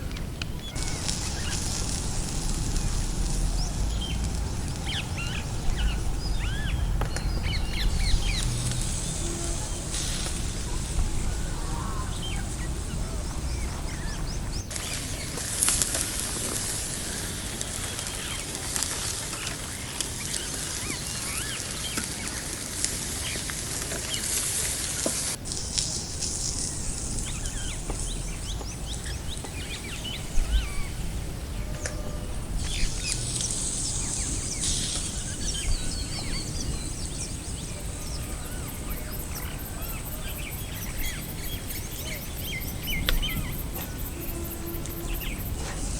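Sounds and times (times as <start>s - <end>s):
constant low rumble: 0.0s - 45.9s
small birds chirping: 0.0s - 45.9s
steady high hiss: 0.0s - 45.9s.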